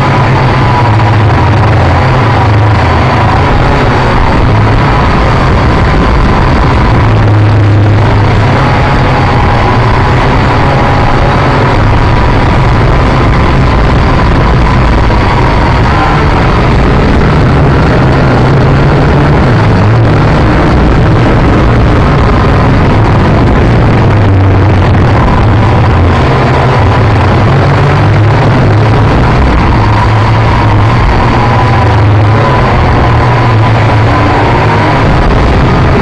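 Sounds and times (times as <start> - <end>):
drone motors and propellers whirring: 0.0 - 36.0.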